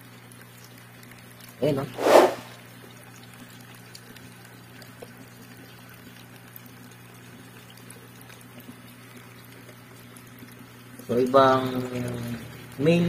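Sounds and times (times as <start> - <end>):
water trickling: 0.0 - 2.0, 2.6 - 13.0.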